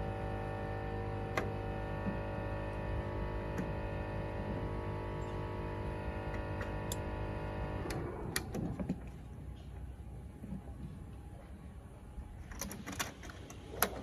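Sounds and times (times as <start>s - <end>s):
machine humming with fixed tones: 0.0s - 14.0s.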